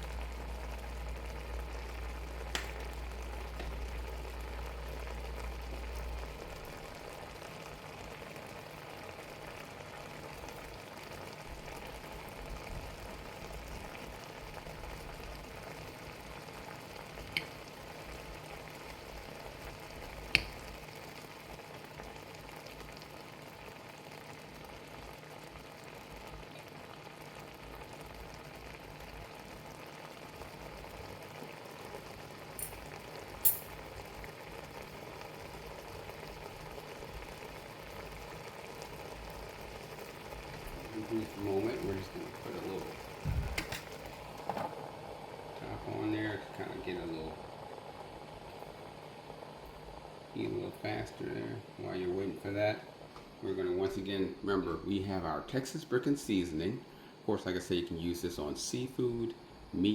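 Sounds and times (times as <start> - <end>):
shrimp sizzling: 0.0 - 59.9.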